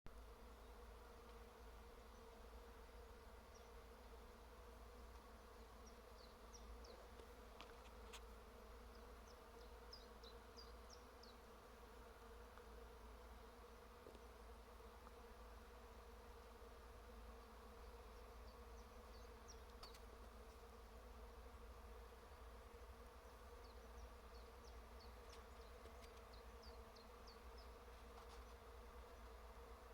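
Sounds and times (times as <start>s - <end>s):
bees buzzing: 0.2s - 29.9s.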